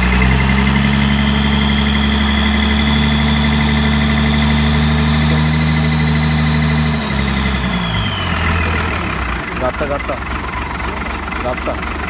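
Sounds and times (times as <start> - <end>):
boat engine running with whine: 0.0 - 12.0.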